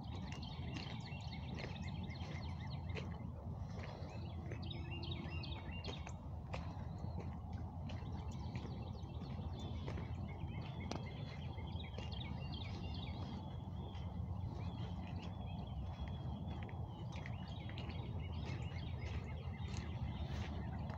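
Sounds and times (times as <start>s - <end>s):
songbirds chirping: 0.0s - 20.9s
steady low rumble: 0.0s - 20.9s.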